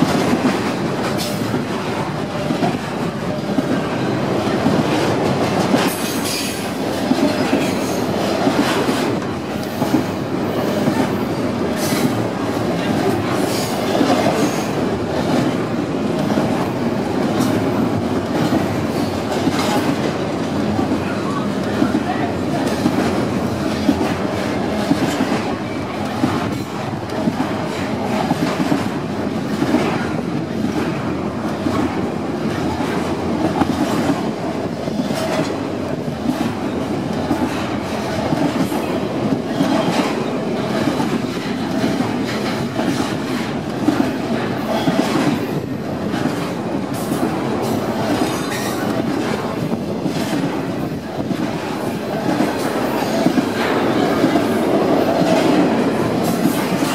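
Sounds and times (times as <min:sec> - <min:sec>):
steel wheels rumbling on rails: 0:00.0 - 0:56.9
train cars clicking and clattering: 0:00.0 - 0:56.9.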